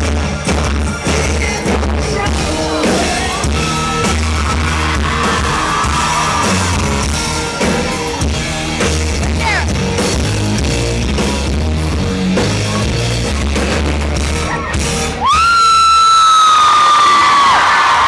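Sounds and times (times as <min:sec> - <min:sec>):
live rock band playing: 0:00.0 - 0:16.2
crowd cheering: 0:00.2 - 0:09.2, 0:10.8 - 0:18.0.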